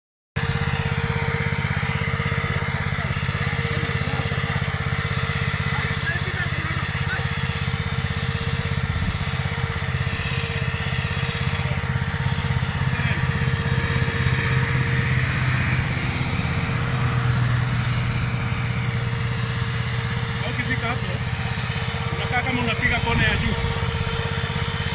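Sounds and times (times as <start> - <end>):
tractor engine running: 0.4 - 24.9.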